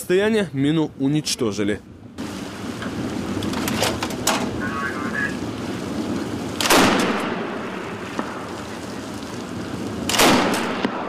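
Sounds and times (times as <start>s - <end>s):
wind and sea rushing: 0.8s - 11.0s.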